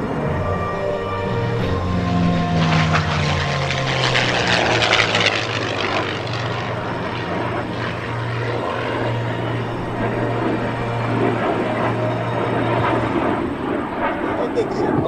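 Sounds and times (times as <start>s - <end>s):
airplane engine roar: 0.0s - 15.0s.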